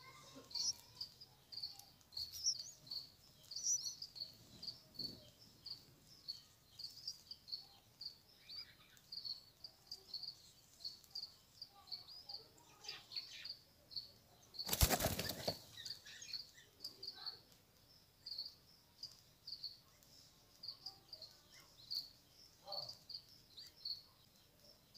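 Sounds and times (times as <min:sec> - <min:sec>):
small bird chirping: 0:00.0 - 0:24.9.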